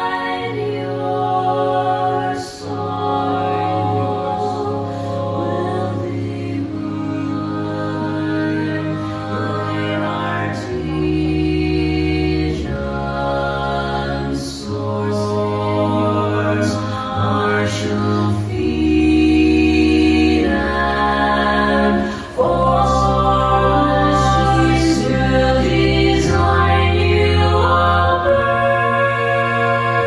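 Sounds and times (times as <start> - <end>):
choir singing sustained chords: 0.0 - 30.0.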